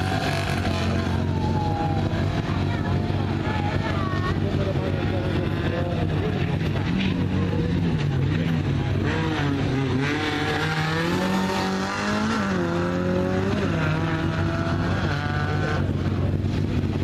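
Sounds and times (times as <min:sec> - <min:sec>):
distant rally car engine revving: 0:00.0 - 0:17.0.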